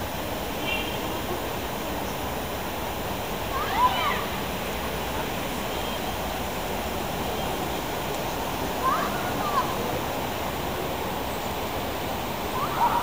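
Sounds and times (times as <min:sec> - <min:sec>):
city ambience rushing noise: 0:00.0 - 0:13.0.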